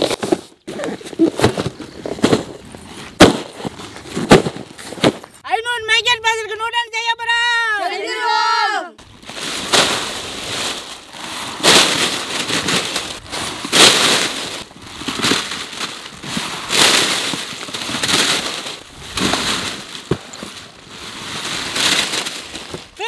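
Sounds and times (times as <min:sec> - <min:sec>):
plastic packets crinkling and rattling: 0:00.0 - 0:05.4, 0:09.0 - 0:23.0.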